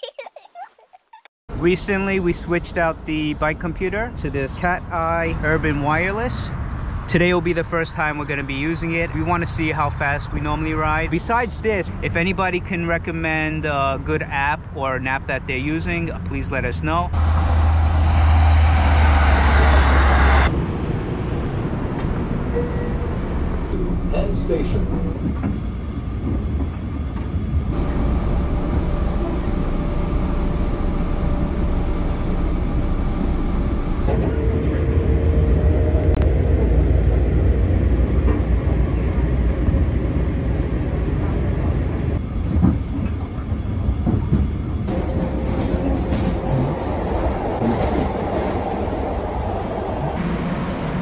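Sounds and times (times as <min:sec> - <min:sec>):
train rumble from inside: 0:01.5 - 0:51.0.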